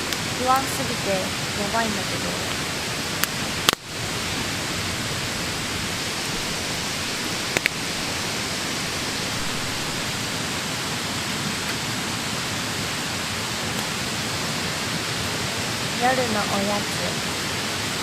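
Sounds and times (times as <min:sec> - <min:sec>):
rushing hiss: 0:00.0 - 0:18.0.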